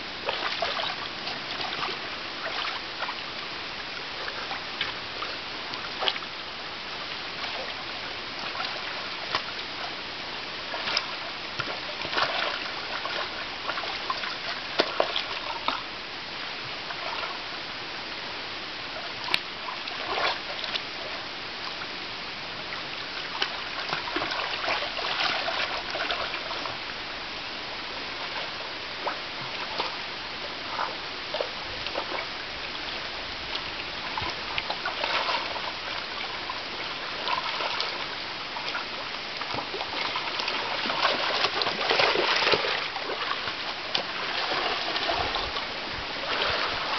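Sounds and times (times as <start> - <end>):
stream trickling: 0.0 - 46.9
water splashing and sloshing: 0.0 - 46.9.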